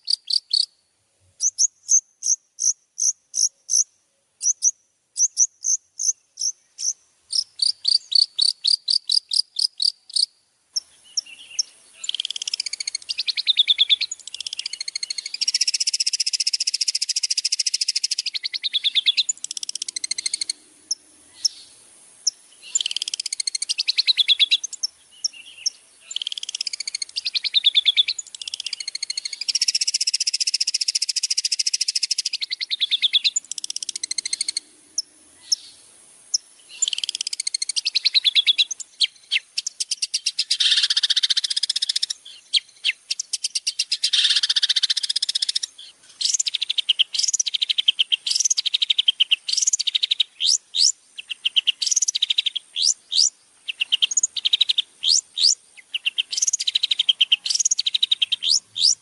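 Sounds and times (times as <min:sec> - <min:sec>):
faint high hiss: 0:00.0 - 0:59.0
songbird singing: 0:00.0 - 0:59.0.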